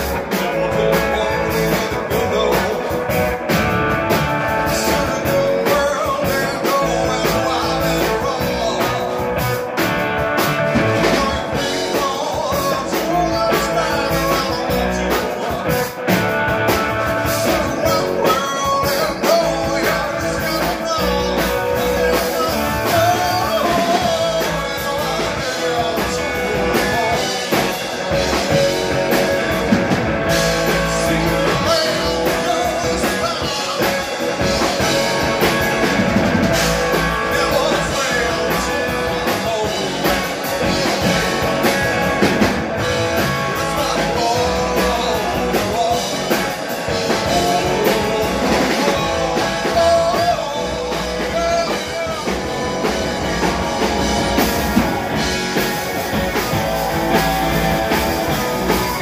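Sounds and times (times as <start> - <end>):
drum kit: 0.0 - 59.0
electric guitar: 0.0 - 59.0
man singing: 0.0 - 59.0.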